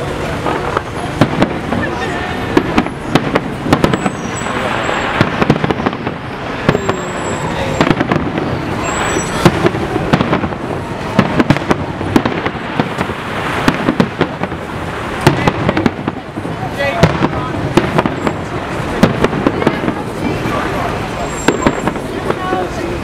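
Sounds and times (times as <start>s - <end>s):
firework bangs: 0.0s - 23.0s
fireworks crackling: 0.0s - 23.0s
high firework whistles: 0.6s - 22.7s.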